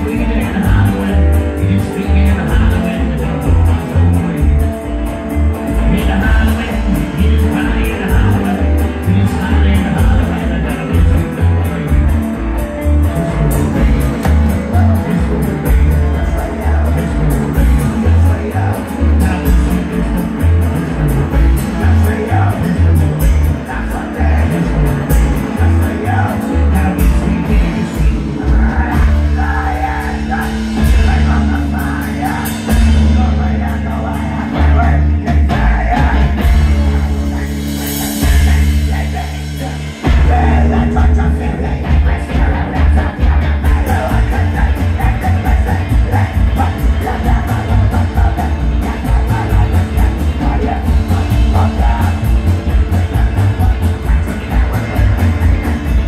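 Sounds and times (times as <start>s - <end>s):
person singing into a microphone: 0.0s - 4.5s, 5.8s - 12.2s, 13.1s - 56.0s
live rock band playing: 0.0s - 56.0s.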